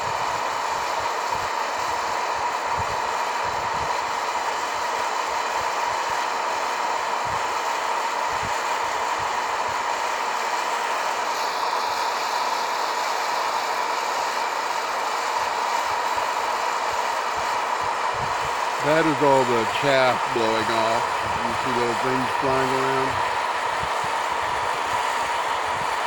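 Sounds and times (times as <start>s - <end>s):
coffee roaster fan whirring: 0.0s - 26.0s.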